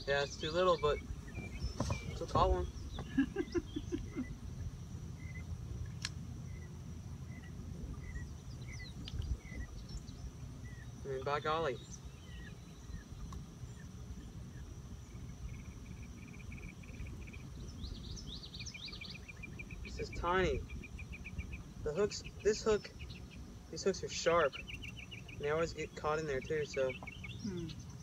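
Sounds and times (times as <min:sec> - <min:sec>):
faint chirp: 0:00.0 - 0:28.0
high insect-like whine: 0:00.0 - 0:28.0
wind rumble on microphone: 0:00.0 - 0:28.0.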